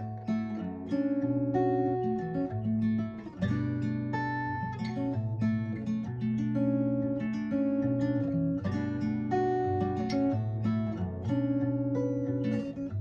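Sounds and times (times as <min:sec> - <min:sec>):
acoustic guitar playing chords: 0:00.0 - 0:13.0.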